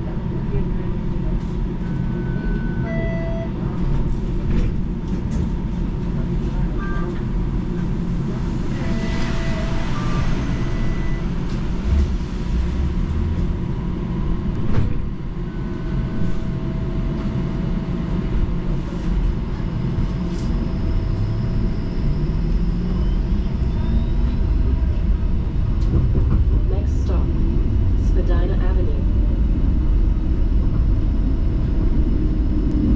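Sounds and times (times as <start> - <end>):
low rumble of streetcar equipment: 0.0 - 32.9.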